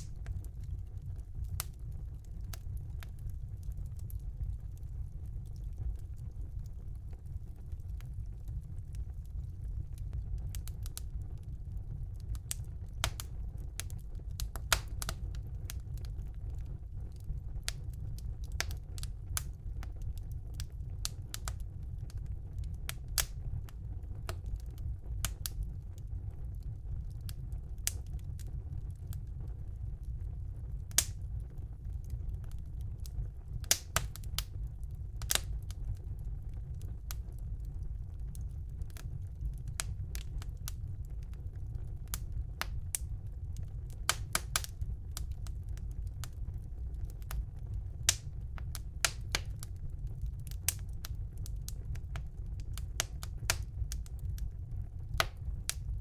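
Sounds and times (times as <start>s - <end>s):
crackles and pops of burning logs: 0.0s - 56.0s
wood fire rumbling: 0.0s - 56.0s.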